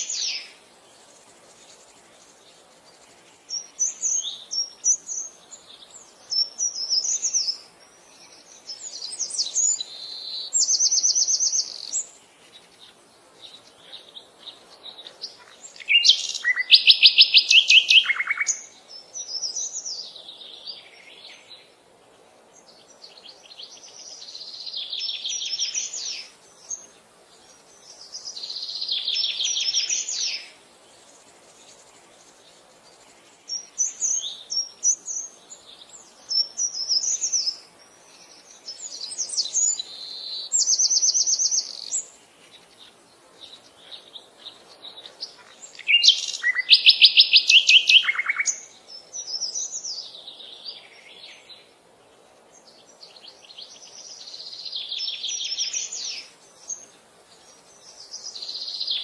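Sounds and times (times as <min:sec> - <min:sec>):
birds chirping and trilling: 0:00.0 - 0:59.0.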